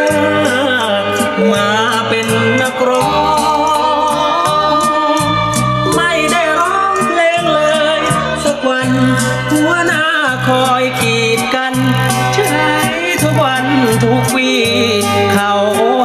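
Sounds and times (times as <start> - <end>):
song over loudspeakers: 0.0 - 16.0.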